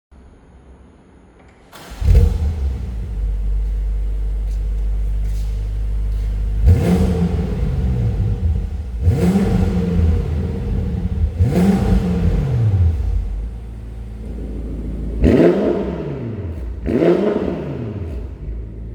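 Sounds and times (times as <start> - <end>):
car engine starting and revving: 1.6 - 18.9.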